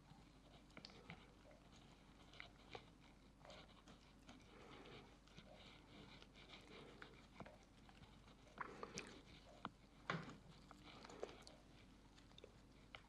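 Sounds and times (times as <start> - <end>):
soft squishes of grated potato: 0.0 - 13.0.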